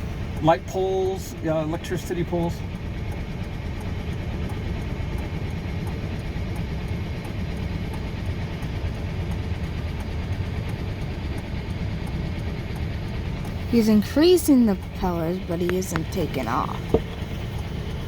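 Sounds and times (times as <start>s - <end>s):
helicopter rotors running: 0.0s - 18.0s.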